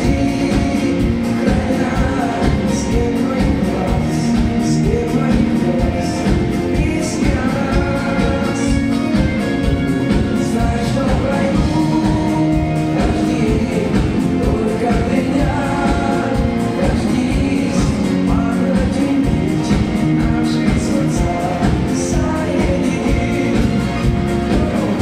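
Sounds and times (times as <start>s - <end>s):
live pop-rock band: 0.0s - 25.0s
man singing into microphone: 0.0s - 25.0s.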